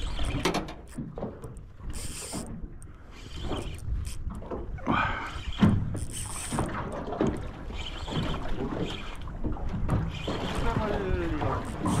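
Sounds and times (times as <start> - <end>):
water slapping boat hull: 0.0 - 12.0.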